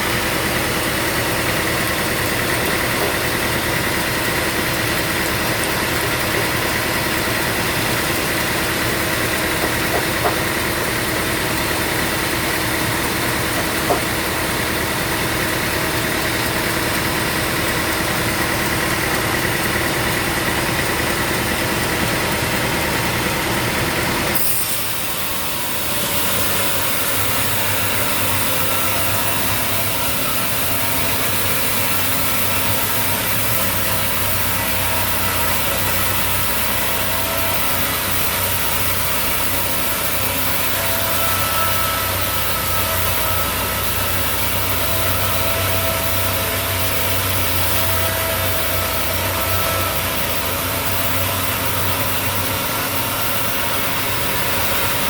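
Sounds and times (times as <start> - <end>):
sawmill engine humming: 0.0 - 55.0.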